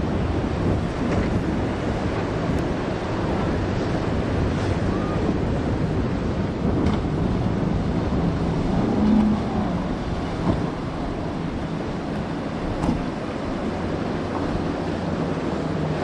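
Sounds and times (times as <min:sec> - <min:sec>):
boat engine droning: 0:00.0 - 0:16.0
ocean waves breaking: 0:00.0 - 0:16.0
wind buffeting microphone: 0:00.0 - 0:16.0.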